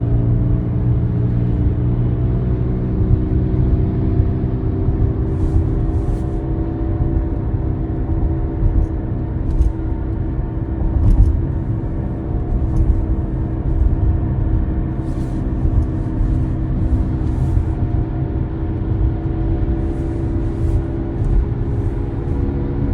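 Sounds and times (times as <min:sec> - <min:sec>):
road rumble: 0:00.0 - 0:22.9.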